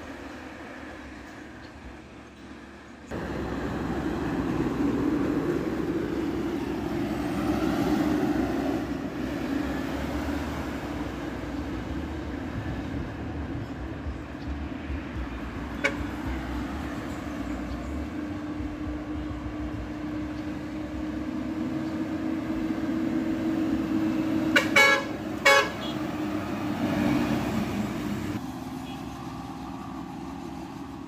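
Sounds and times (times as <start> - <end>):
bus and truck engines droning: 0.0 - 31.0.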